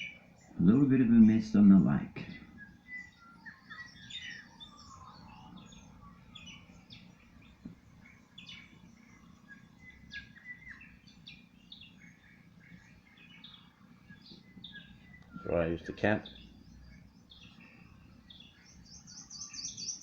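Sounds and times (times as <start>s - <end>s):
birds chirping and calling: 0.0s - 20.0s
low steady background noise: 0.0s - 20.0s.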